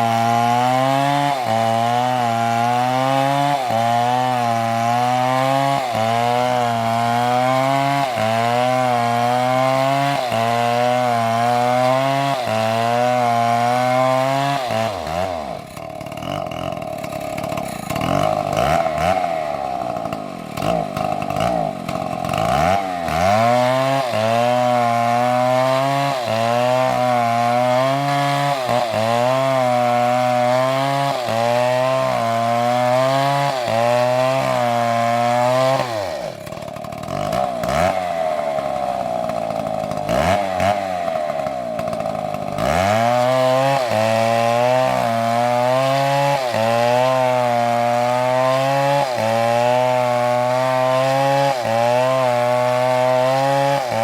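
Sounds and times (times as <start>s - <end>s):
chainsaw cutting tree: 0.0s - 54.0s.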